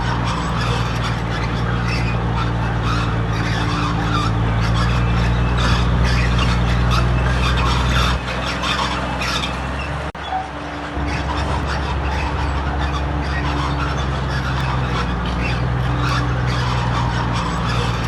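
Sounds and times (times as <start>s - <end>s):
heavy diesel engine under load: 0.0s - 18.0s.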